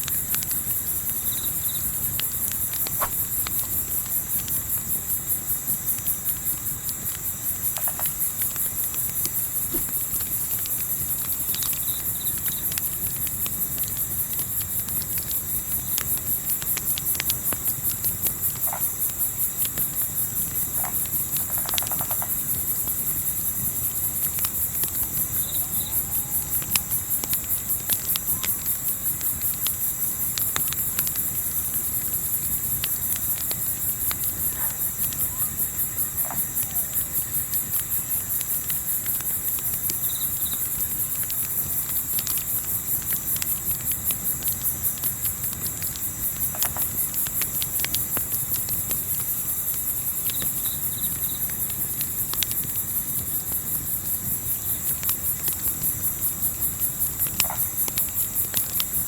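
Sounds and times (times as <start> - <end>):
campfire crackling: 0.0 - 59.0
crickets chirping: 0.0 - 59.0.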